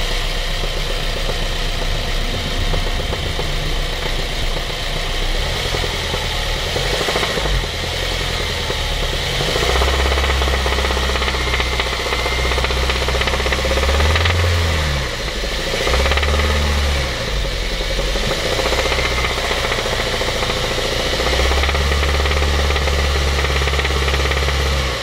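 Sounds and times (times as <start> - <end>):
car engine revving with knock: 0.0 - 25.0.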